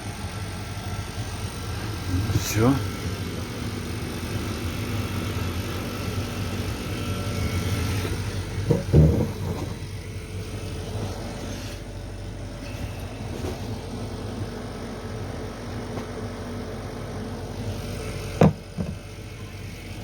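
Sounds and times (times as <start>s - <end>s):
refrigeration unit humming: 0.0s - 20.0s.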